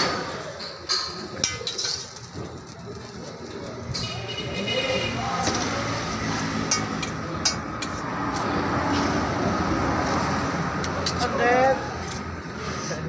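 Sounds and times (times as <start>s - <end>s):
rumbling street background noise: 0.0s - 13.0s.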